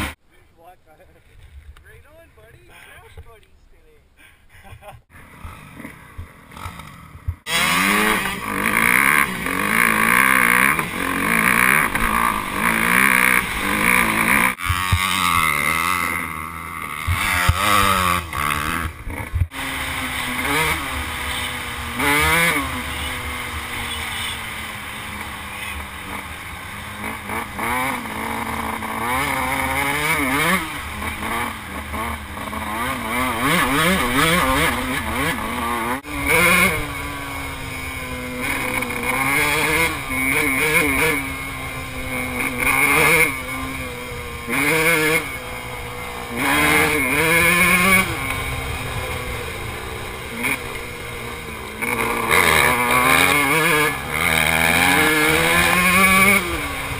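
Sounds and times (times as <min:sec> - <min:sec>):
dirt bike engines revving: 0:00.0 - 0:00.2, 0:00.9 - 0:56.9.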